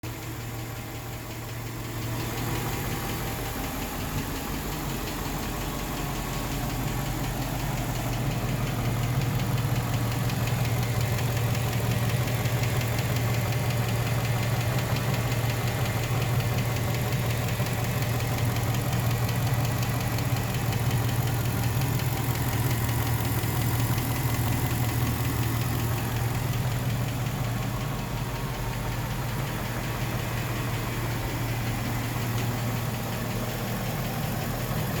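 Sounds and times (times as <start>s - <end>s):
engine idling with rapid knock: 0.0s - 35.0s.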